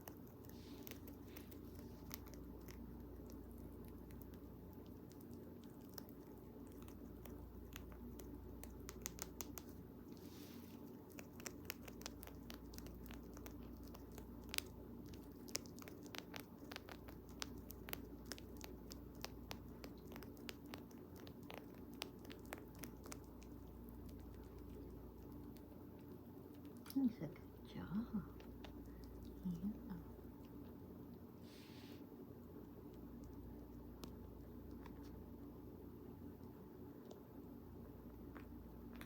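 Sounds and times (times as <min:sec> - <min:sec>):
rabbit gnawing bamboo: 0:00.0 - 0:27.6, 0:28.3 - 0:31.3, 0:32.4 - 0:37.2
faint steady hum: 0:00.0 - 0:39.0.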